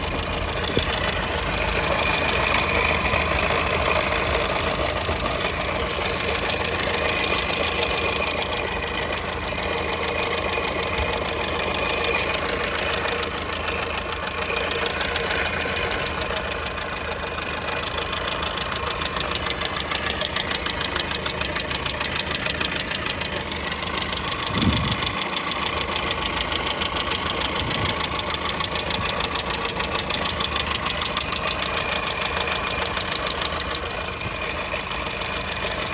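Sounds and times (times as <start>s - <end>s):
car engine idling with knock: 0.0s - 35.9s.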